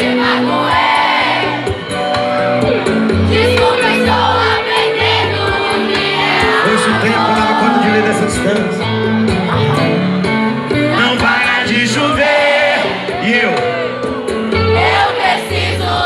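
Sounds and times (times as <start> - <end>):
crowd shouting and singing: 0.0 - 16.0
live band music: 0.0 - 16.0.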